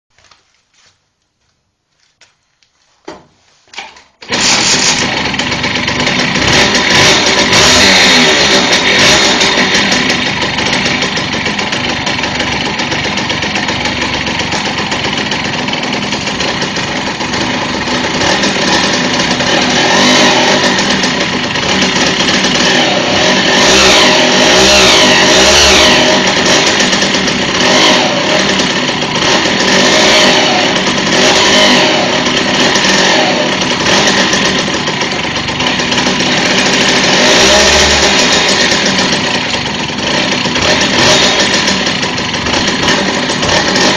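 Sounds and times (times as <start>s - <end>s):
moped engine revving: 4.2s - 43.9s.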